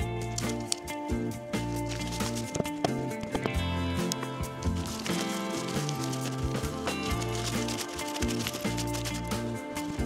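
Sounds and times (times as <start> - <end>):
background music with bass chords: 0.0 - 10.0.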